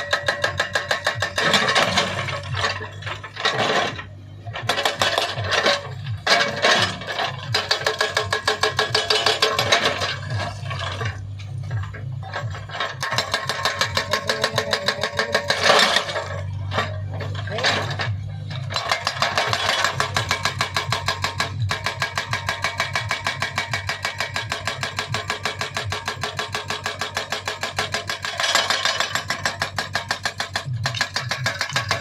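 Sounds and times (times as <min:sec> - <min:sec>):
diesel engine running: 0:00.0 - 0:32.0
hydraulic rock breaker hammering: 0:00.0 - 0:32.0.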